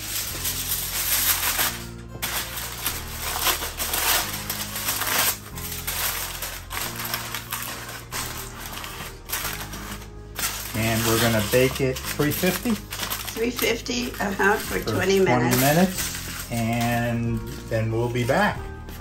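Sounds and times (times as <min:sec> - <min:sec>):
foil crinkling: 0:00.0 - 0:18.6.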